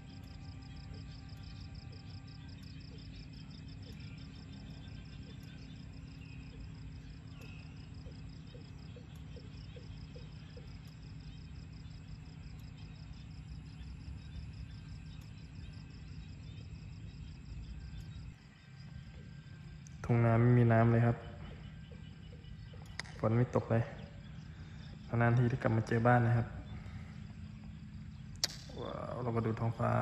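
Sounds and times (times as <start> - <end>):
insects chirping: 0.0 - 30.0
steady low rumble: 0.0 - 30.0.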